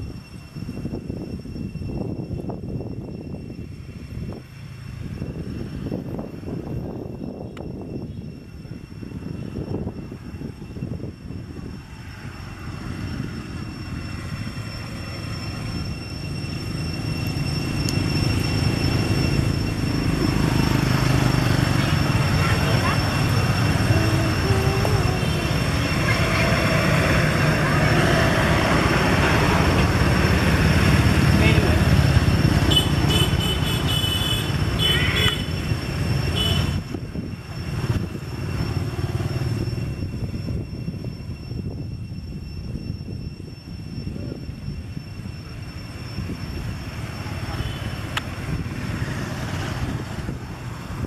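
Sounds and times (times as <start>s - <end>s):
road traffic rumble: 0.0s - 51.0s
steady high-pitched tone: 0.0s - 51.0s.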